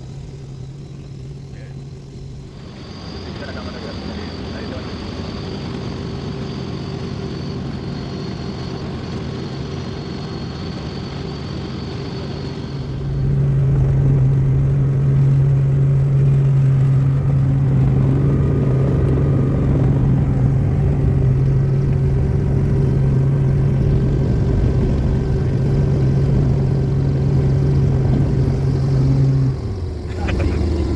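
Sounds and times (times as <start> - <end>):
helicopter engine and rotor: 0.0 - 30.9.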